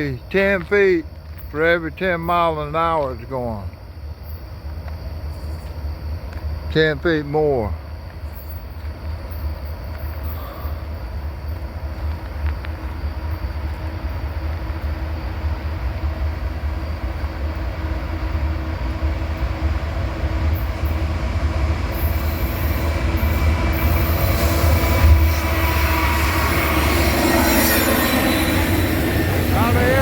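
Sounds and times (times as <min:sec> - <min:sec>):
freight train rumble: 0:00.0 - 0:30.0.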